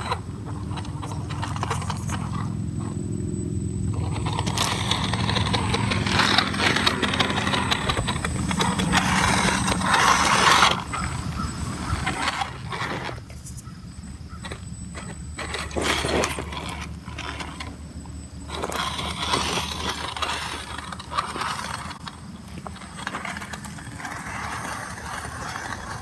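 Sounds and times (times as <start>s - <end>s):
tyres crunching on gravel: 0.0s - 3.0s, 3.8s - 26.0s
electric motor whirring: 0.0s - 26.0s.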